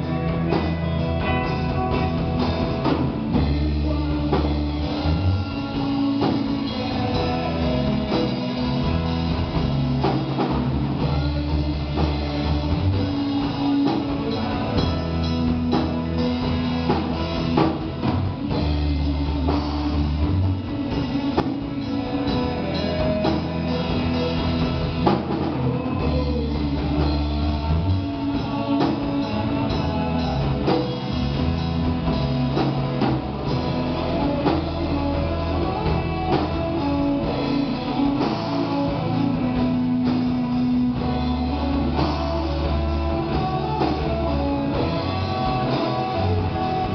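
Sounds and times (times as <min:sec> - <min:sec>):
bass held notes: 0:00.0 - 0:46.9
drum kit steady beat: 0:00.0 - 0:46.9
electric guitar: 0:00.0 - 0:46.9.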